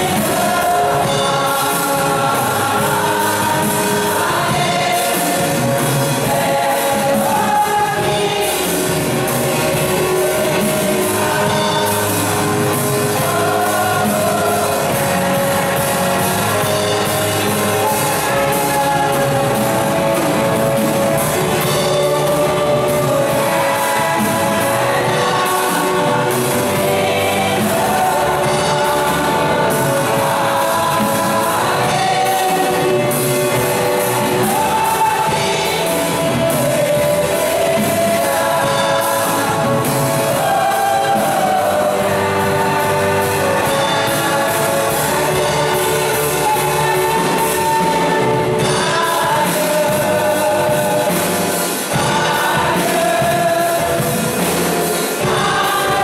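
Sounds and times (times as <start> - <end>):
women's choir singing gospel: 0.0 - 56.0.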